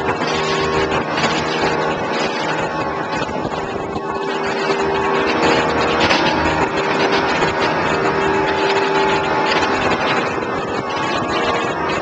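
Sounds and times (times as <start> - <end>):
outboard engines humming: 0.0 - 12.0
rushing water: 0.0 - 12.0
wind: 0.0 - 12.0.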